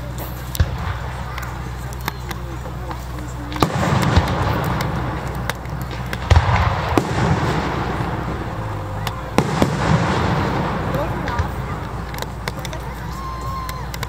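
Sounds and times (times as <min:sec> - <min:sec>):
firework bangs: 0:00.0 - 0:14.0
low rumble: 0:00.0 - 0:14.0.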